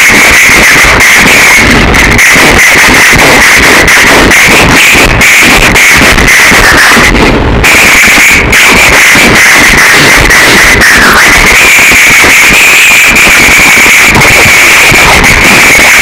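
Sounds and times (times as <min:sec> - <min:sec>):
harsh distorted noise music: 0:00.0 - 0:16.0.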